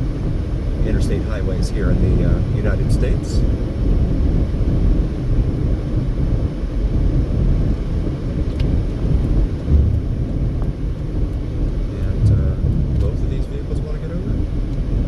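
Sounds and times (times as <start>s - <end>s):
car driving at highway speed: 0.0s - 15.0s.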